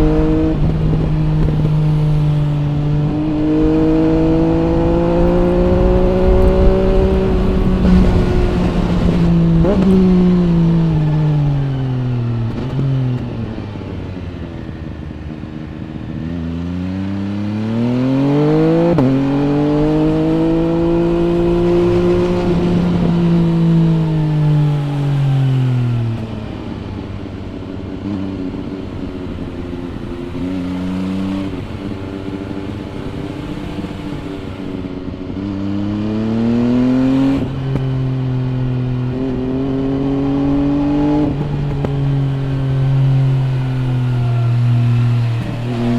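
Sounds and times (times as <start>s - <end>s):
gear change: 0.0s - 16.3s, 17.6s - 45.9s
motorcycle engine revving: 0.0s - 45.9s.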